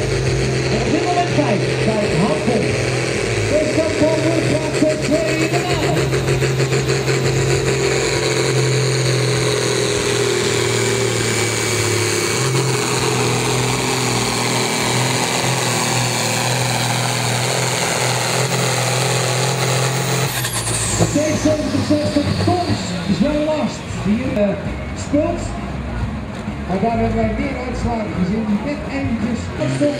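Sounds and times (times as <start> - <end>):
tractor diesel engine droning: 0.0 - 29.9.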